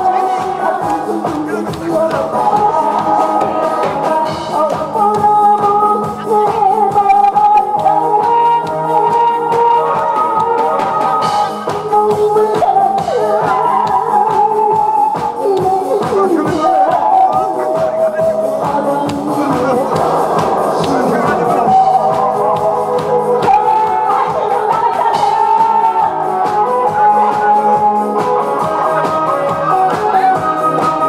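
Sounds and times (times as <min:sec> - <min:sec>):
backing track with drum beat: 0:00.0 - 0:31.0
woman singing into a microphone: 0:00.0 - 0:31.0.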